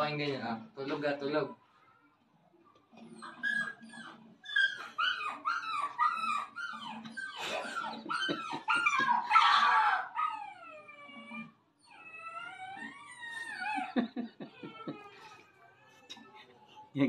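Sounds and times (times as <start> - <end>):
puppy whining: 2.7 - 17.0
puppy whimpering and yelping: 2.9 - 16.9.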